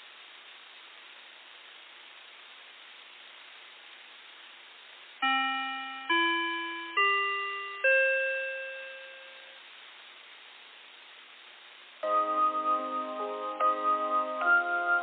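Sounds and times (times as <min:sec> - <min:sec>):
steady system hiss: 0:00.0 - 0:15.0.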